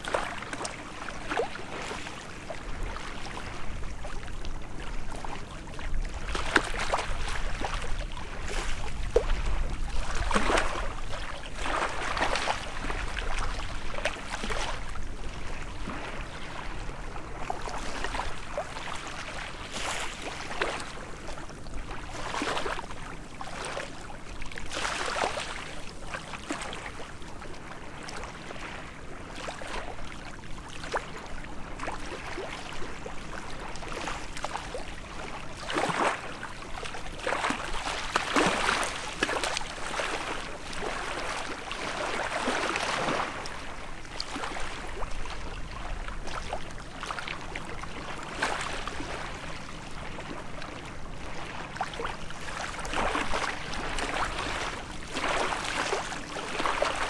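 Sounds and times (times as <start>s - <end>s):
small waves lapping at shore: 0.0s - 57.0s.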